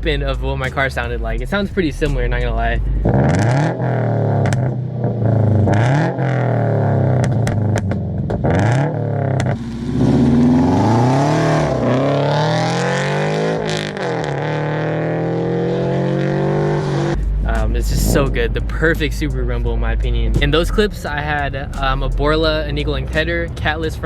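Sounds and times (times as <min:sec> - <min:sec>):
car engine accelerating through gears: 0:02.1 - 0:24.0.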